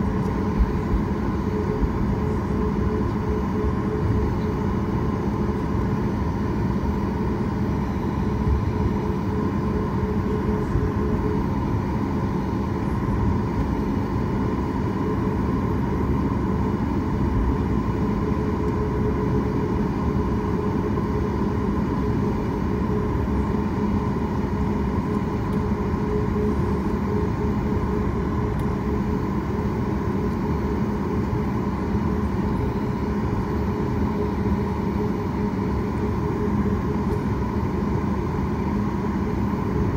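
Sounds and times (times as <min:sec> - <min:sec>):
airplane cabin engine hum: 0:00.0 - 0:39.9.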